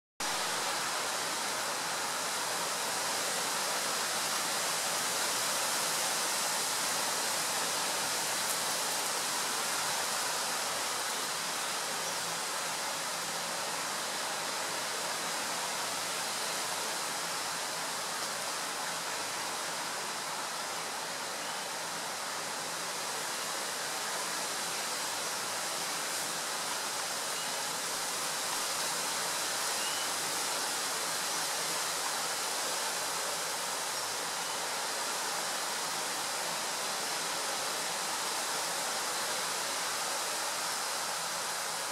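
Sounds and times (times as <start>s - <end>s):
outdoor background hiss: 0.2s - 41.9s.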